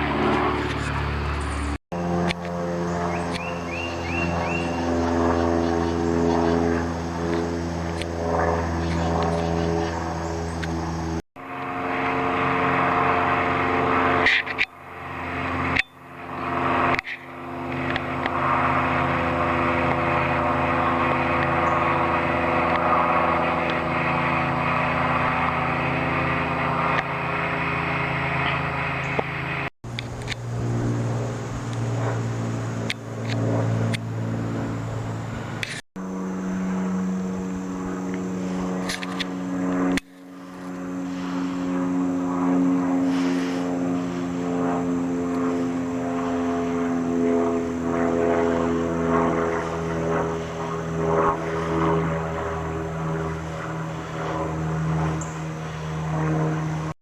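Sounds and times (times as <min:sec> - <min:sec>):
airplane engines droning: 0:00.0 - 0:57.0.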